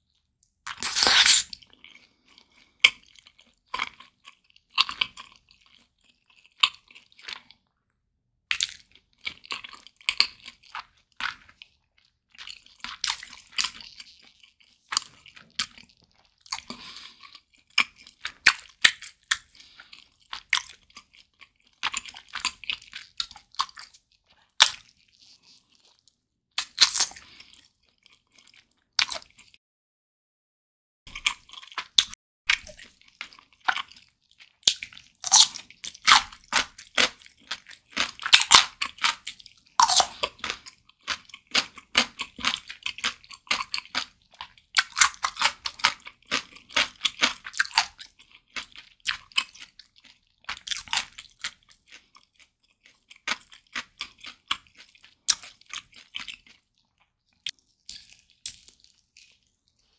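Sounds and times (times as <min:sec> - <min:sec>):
close-miked chewing: 0:00.1 - 0:07.8, 0:08.5 - 0:29.6, 0:31.1 - 0:59.9.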